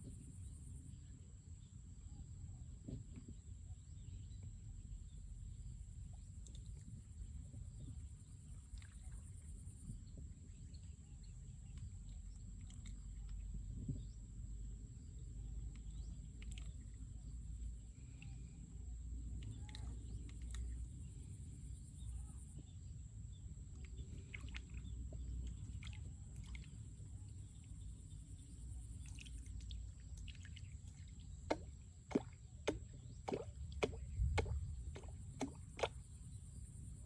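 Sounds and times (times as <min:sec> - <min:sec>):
low outdoor rumble: 0:00.0 - 0:37.0.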